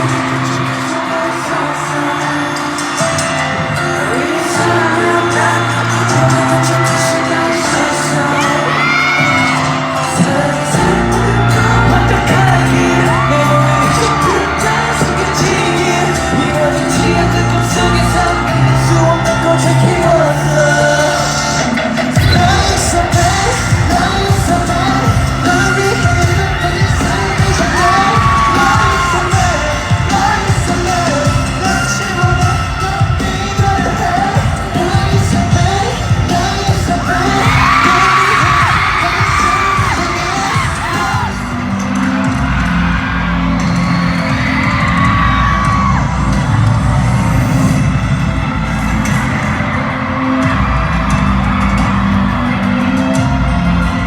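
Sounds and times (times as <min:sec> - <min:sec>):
fans yelling: 0:00.0 - 0:54.0
person singing: 0:00.0 - 0:54.0
pop music over sound system: 0:00.0 - 0:54.0
heavy bass beat: 0:04.6 - 0:54.0.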